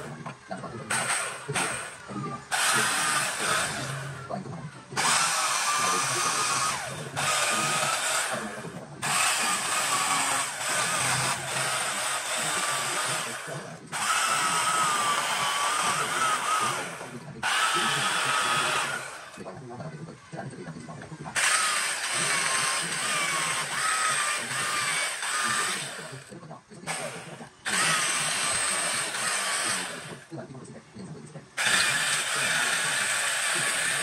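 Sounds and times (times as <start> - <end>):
power carving tool grinding wood: 0.0 - 19.5, 21.2 - 30.4, 31.6 - 34.0.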